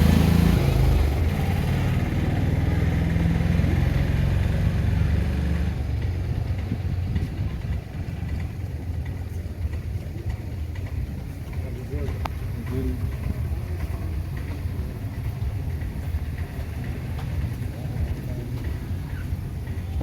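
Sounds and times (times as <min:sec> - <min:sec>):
street noise: 0:00.0 - 0:20.0
vehicle engine idling: 0:00.0 - 0:20.0.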